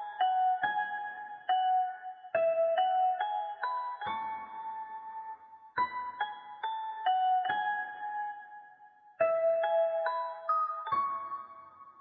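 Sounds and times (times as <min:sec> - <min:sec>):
slow lullaby on keyboard: 0:00.0 - 0:12.0.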